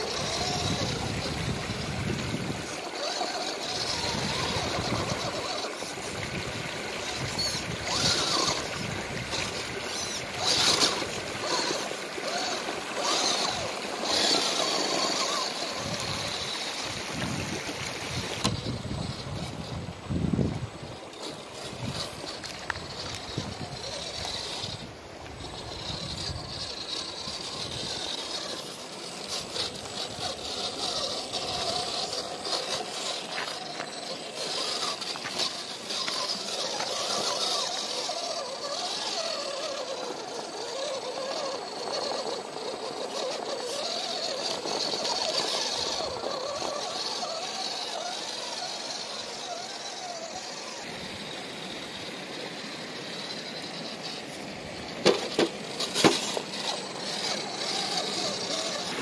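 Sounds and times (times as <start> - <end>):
electric motor and gears whining: 0.0 - 59.0.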